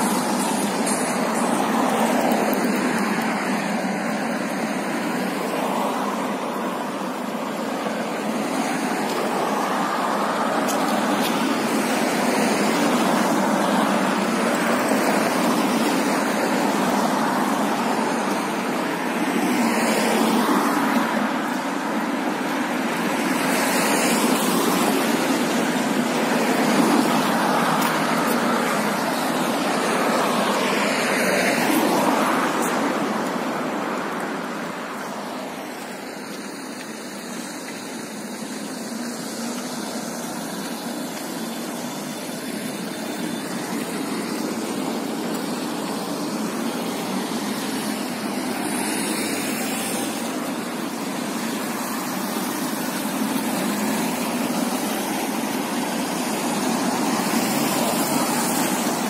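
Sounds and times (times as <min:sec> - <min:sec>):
road traffic rush: 0:00.0 - 0:59.0
vehicles passing: 0:00.0 - 0:59.0.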